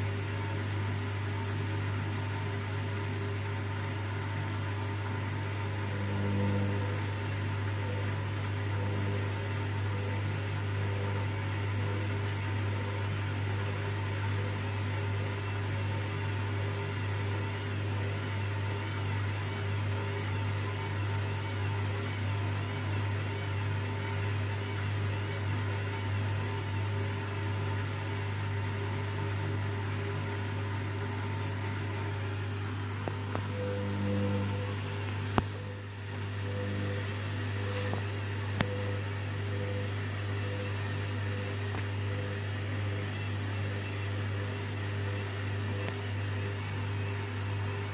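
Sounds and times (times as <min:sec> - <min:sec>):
washing machine motor humming: 0:00.0 - 0:47.9.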